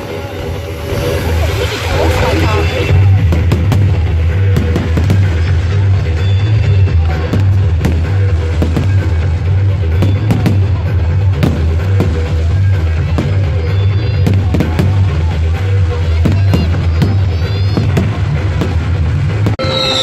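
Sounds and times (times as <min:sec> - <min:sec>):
fireworks bangs and crackles: 0:00.0 - 0:19.6
loud music with heavy bass: 0:00.0 - 0:20.0.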